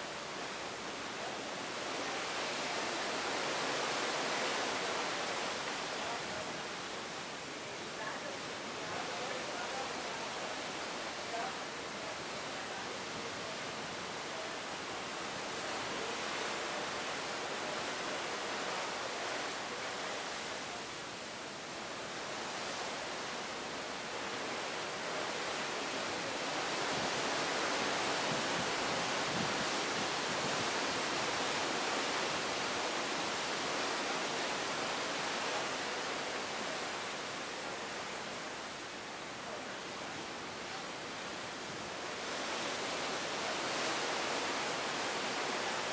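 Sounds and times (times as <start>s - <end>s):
water rushing along ship hull: 0.0s - 45.9s.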